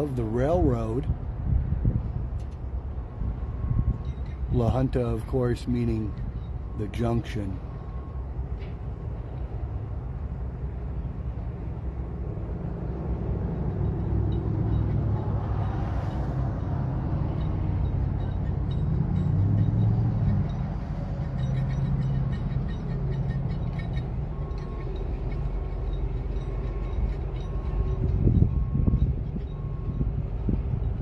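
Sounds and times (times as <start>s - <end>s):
heavy diesel engines rumbling: 0.0s - 31.0s.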